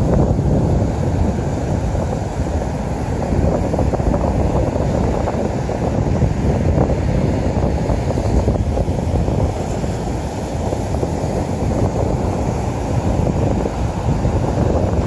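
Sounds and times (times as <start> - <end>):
distant rocket rumble: 0.0 - 15.0.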